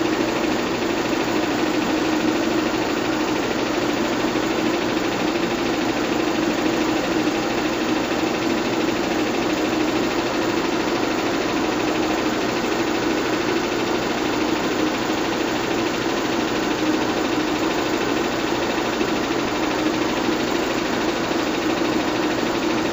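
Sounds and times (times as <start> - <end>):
film projector whirring: 0.0 - 22.9.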